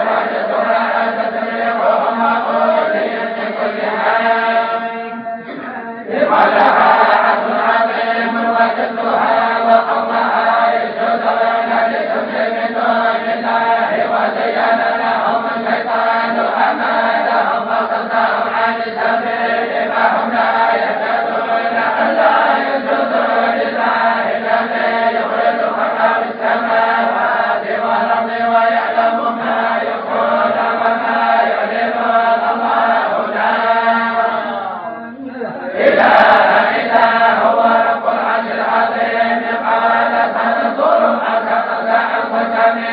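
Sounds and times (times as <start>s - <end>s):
group of voices chanting: 0.0s - 42.9s.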